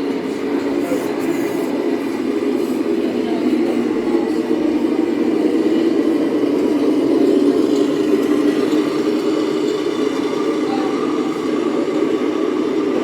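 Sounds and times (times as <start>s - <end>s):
steady mechanical running noise: 0.0s - 13.0s.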